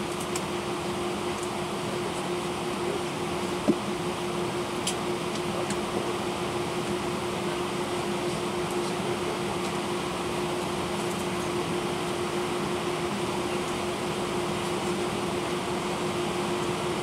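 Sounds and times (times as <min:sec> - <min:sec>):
constant low hum: 0:00.0 - 0:17.0
jet engine cabin drone: 0:00.0 - 0:17.0.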